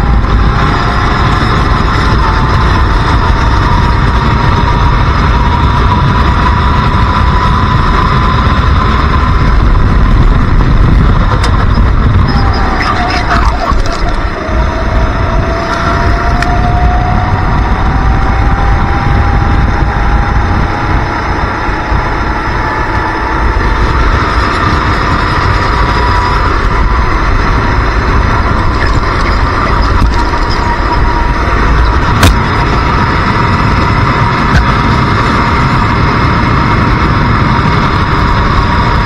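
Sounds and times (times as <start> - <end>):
racing kart engine running hard: 0.0 - 39.0
wind rumble on microphone: 0.0 - 39.0.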